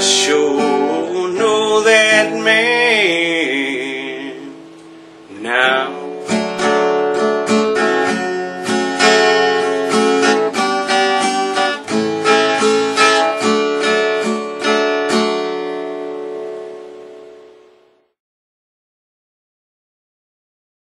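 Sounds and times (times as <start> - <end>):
acoustic guitar strumming chords: 0.0 - 18.2.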